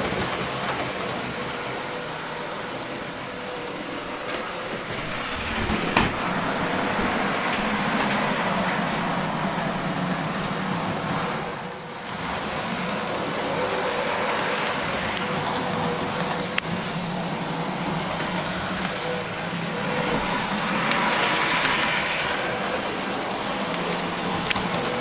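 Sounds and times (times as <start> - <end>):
model locomotive motor whirring: 0.0 - 25.0.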